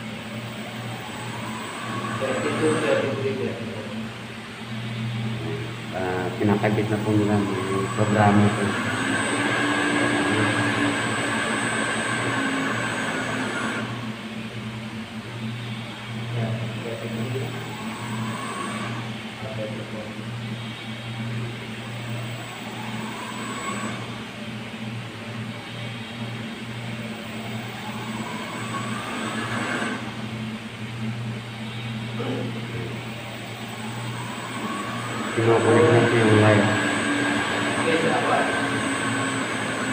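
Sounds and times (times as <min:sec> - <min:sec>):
electric motor humming: 0:00.0 - 0:14.8, 0:15.4 - 0:24.3, 0:25.6 - 0:39.9
high whine: 0:00.0 - 0:39.9.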